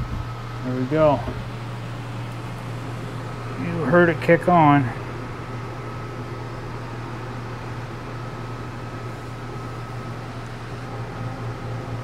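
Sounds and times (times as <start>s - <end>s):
air conditioner blower fan: 0.0s - 12.0s
steady electrical hum: 0.0s - 12.0s.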